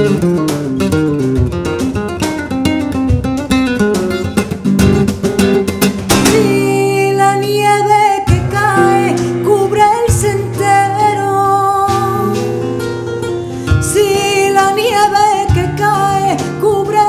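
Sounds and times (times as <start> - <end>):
guitar strumming: 0.0 - 17.0.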